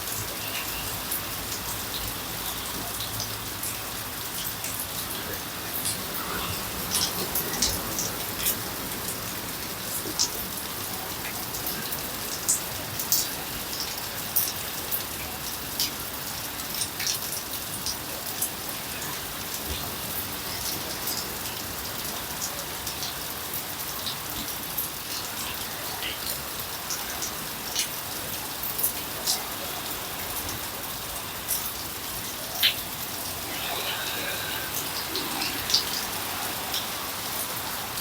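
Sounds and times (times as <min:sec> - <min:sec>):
heavy rain hissing: 0:00.0 - 0:38.0.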